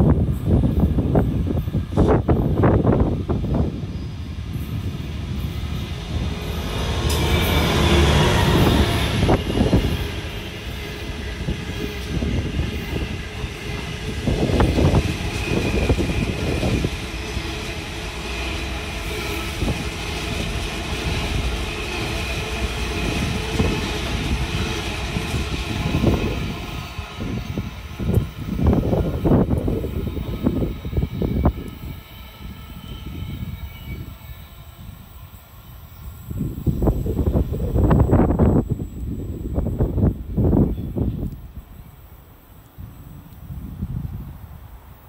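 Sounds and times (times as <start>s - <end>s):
diesel locomotive passing: 0.0s - 45.0s.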